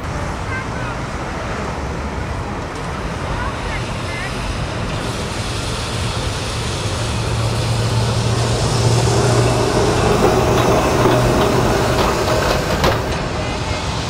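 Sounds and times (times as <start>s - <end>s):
electric tram running past: 0.0s - 14.0s.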